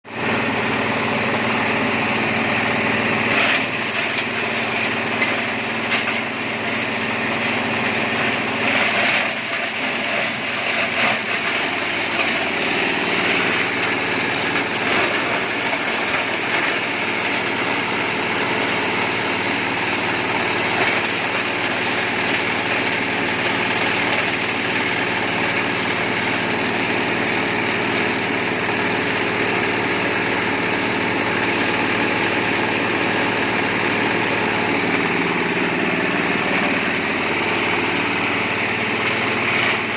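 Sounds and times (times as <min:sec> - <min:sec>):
shredding machine engine running: 0:00.1 - 0:39.9.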